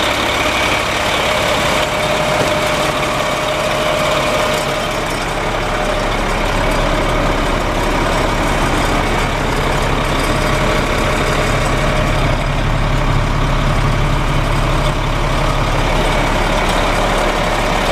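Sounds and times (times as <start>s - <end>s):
diesel truck engine idling: 0.0s - 17.9s.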